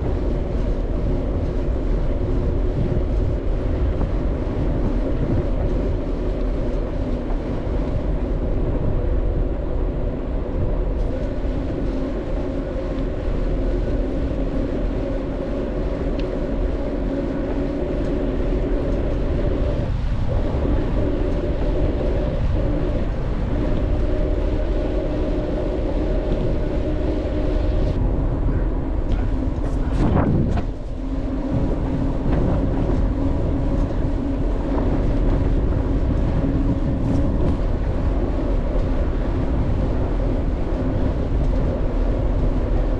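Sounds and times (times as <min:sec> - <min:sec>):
bicycle tyres rumbling on road: 0:00.0 - 0:42.9
wind rush: 0:00.0 - 0:42.9.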